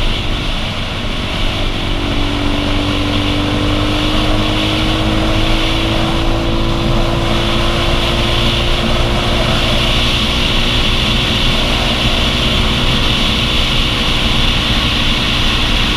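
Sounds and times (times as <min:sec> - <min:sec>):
motorcycle engine running: 0:00.0 - 0:15.9
wind rumbling on microphone: 0:00.0 - 0:15.9.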